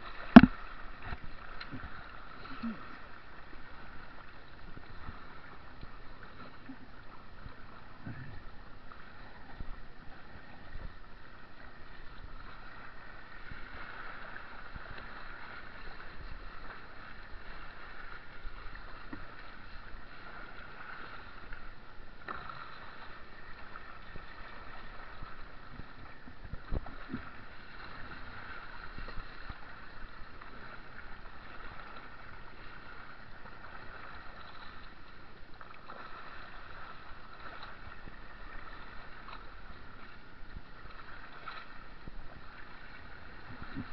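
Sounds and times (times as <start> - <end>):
water splashing around canoe: 0.0 - 43.9.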